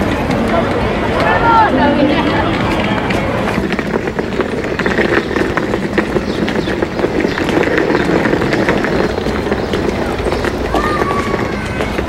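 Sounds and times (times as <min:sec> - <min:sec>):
hurried footsteps on pavement: 0:00.0 - 0:12.0
rolling bag wheels rattling: 0:00.0 - 0:12.0.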